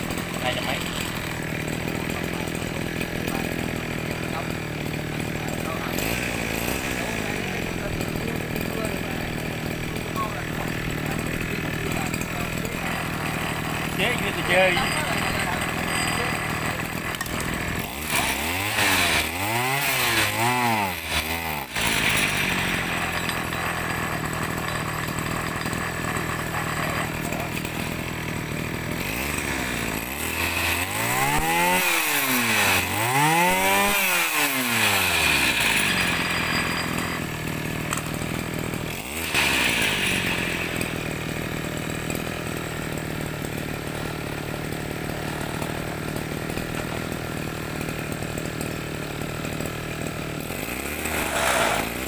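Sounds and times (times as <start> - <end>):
small two-stroke engine revving: 0.0 - 52.0.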